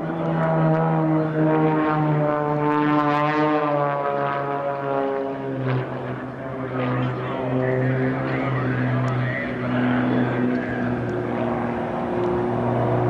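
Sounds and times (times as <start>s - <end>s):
propeller airplane flying by: 0.0s - 13.0s.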